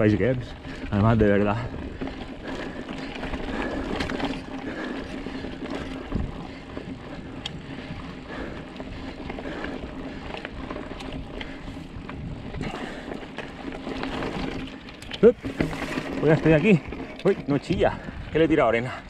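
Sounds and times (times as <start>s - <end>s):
bike rattling over bumps: 0.0s - 19.0s
bike tyres on loose gravel: 0.0s - 19.0s.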